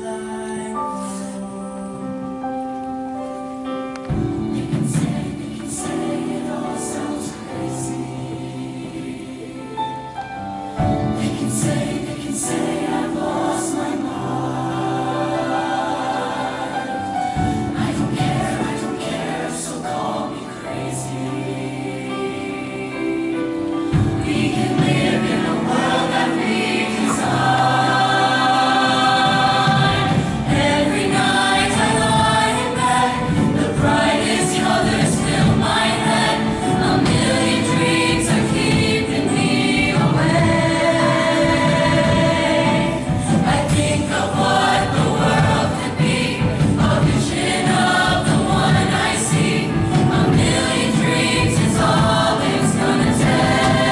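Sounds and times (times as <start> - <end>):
choir singing in harmony: 0.0 - 53.9.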